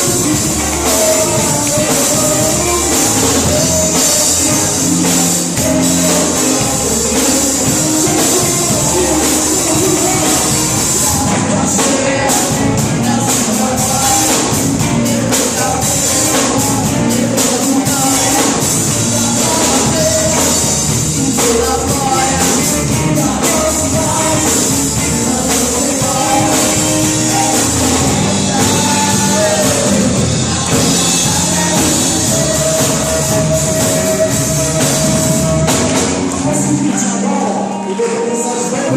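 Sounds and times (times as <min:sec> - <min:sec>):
band playing upbeat song: 0:00.0 - 0:38.9
drum kit: 0:00.0 - 0:38.9
voices singing: 0:00.0 - 0:38.9.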